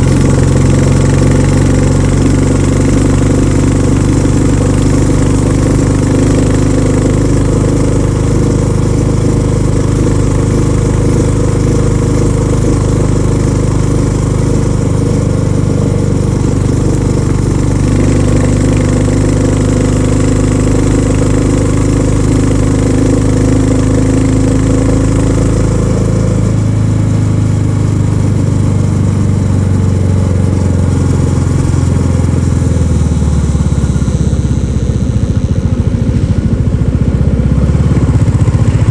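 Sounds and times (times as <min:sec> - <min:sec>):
motorcycle engine thumping: 0:00.0 - 0:38.9.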